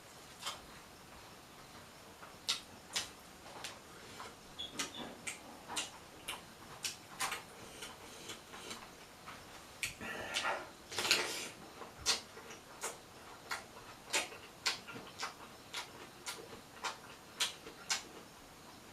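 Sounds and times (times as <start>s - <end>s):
mouth clicks and lip smacks chewing: 0.3s - 0.6s, 2.4s - 18.2s.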